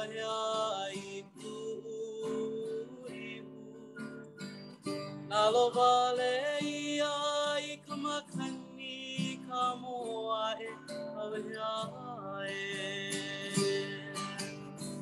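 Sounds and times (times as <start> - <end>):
man singing: 0.0 - 4.5, 5.2 - 15.0
strummed strings: 0.0 - 15.0.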